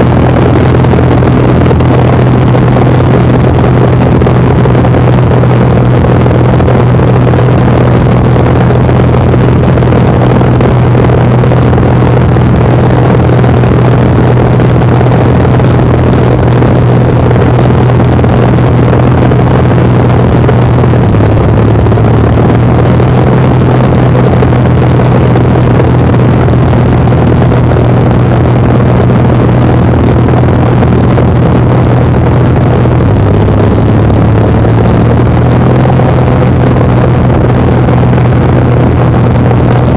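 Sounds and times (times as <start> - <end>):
airplane piston engine droning: 0.0 - 39.9.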